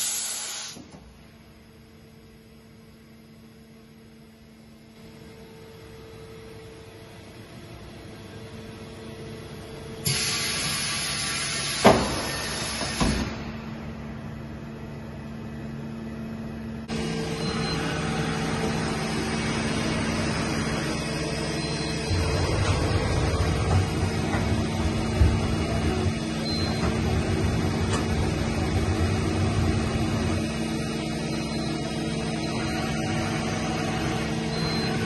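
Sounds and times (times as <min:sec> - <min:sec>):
machinery hum: 0:00.0 - 0:35.0.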